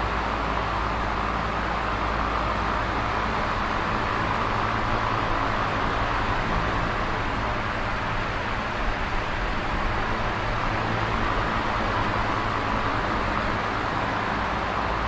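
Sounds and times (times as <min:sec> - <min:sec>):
electric fan whooshing air: 0:00.0 - 0:15.0
low motor hum: 0:02.6 - 0:15.0.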